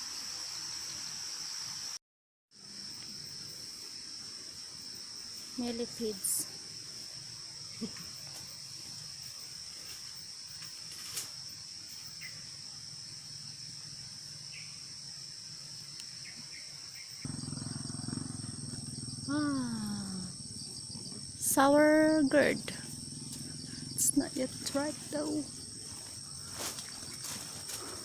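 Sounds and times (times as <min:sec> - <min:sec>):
insects droning: 0:00.0 - 0:02.0, 0:02.6 - 0:28.0.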